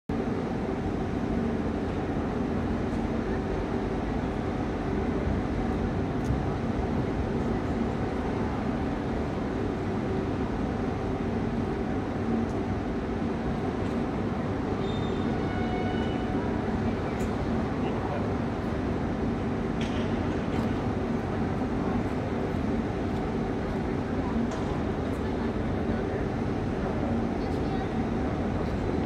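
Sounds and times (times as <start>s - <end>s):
constant low hum: 0.1s - 29.0s
outdoor background rumble: 0.1s - 29.0s.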